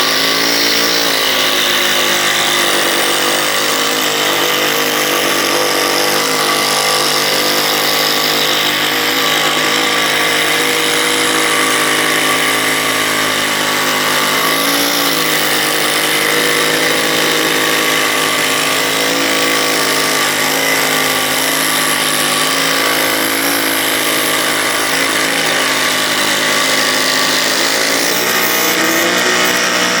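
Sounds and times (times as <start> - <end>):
power tool motor running: 0.0 - 30.0.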